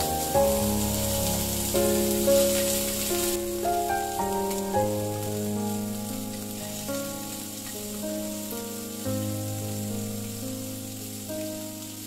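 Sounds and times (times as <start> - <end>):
background music of held notes: 0.0 - 12.0
shrimp sizzling in hot oil: 0.0 - 12.0.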